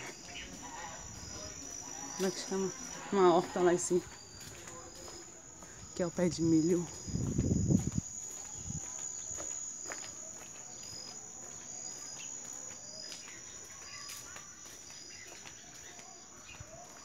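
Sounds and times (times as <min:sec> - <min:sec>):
faint footsteps on paving: 0:00.0 - 0:17.0
insects trilling: 0:00.0 - 0:17.0.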